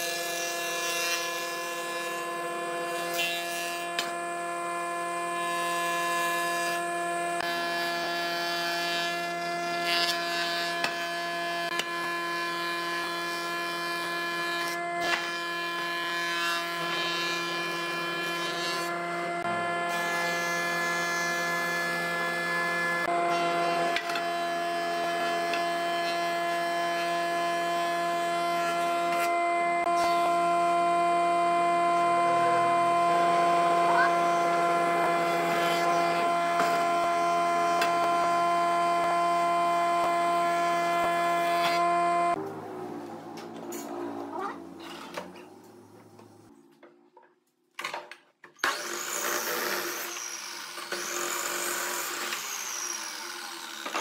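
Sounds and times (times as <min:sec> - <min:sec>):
cutterhead shaving wood: 0:00.0 - 0:42.6, 0:48.6 - 0:54.0
planer machine whine: 0:00.0 - 0:46.7, 0:48.6 - 0:54.0.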